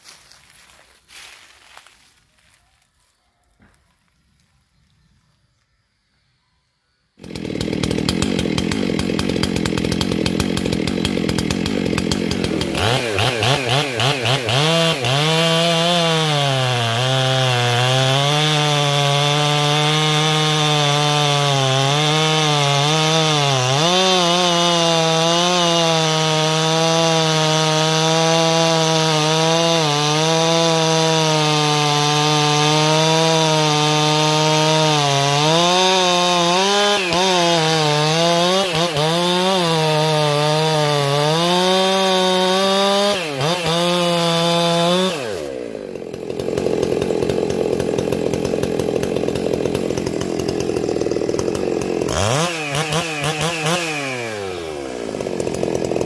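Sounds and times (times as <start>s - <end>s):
chainsaw cutting through log: 7.2s - 56.0s.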